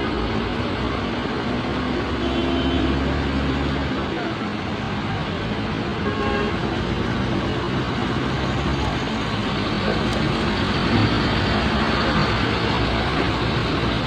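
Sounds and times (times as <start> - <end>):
traffic on wet road: 0.0 - 14.0.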